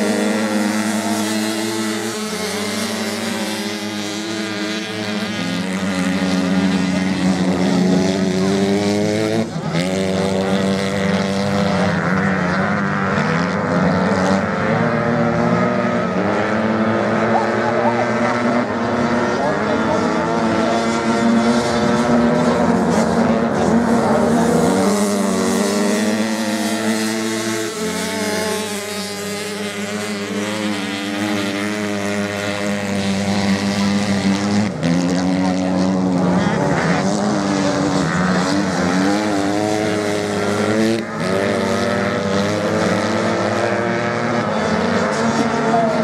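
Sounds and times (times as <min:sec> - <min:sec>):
motorcycle engines racing: 0:00.0 - 0:46.0.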